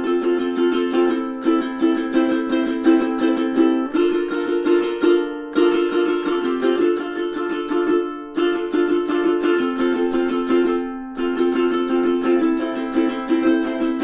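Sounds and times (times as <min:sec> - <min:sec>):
ukulele playing: 0:00.0 - 0:14.0.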